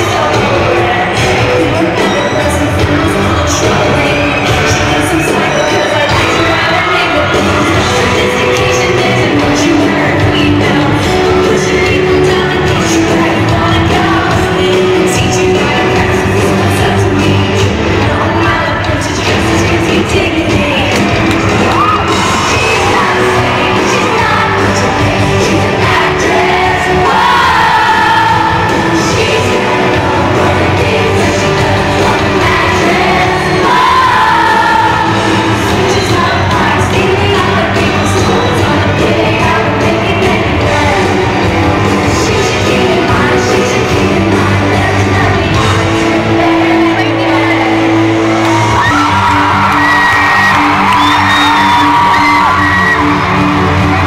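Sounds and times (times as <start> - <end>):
drums: 0.0 - 54.0
fans yelling and whooping: 0.0 - 54.0
live pop-rock band: 0.0 - 54.0
woman singing: 0.0 - 54.0.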